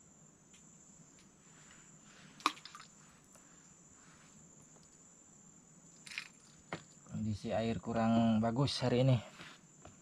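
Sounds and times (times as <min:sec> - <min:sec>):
high insect trill: 0:00.0 - 0:10.0.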